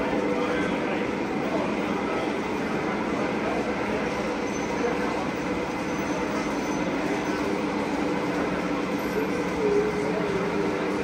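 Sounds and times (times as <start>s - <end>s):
crowd talking: 0.0s - 11.0s
model trains rumbling: 0.0s - 11.0s.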